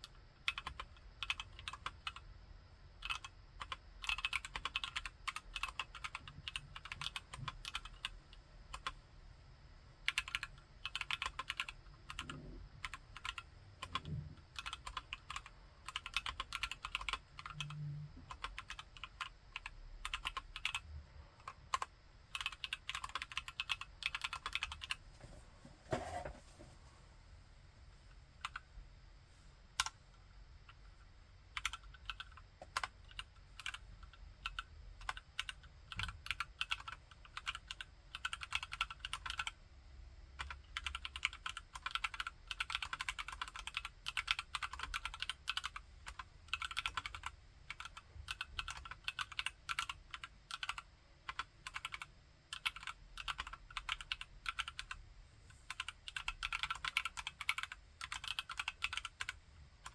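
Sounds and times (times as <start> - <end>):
mechanical keyboard typing: 0.0 - 2.2, 3.0 - 9.0, 10.0 - 20.8, 21.4 - 25.0, 31.5 - 39.6, 40.4 - 55.0, 55.7 - 59.9.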